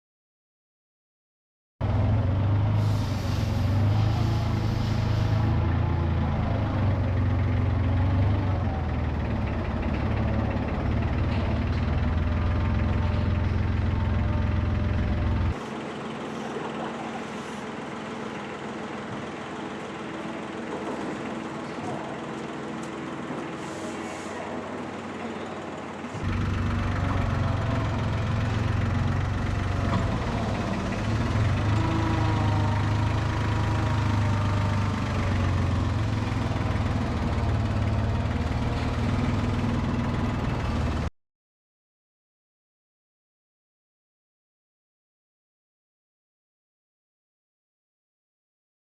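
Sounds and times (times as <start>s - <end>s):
heavy vehicle humming: 1.8s - 41.1s.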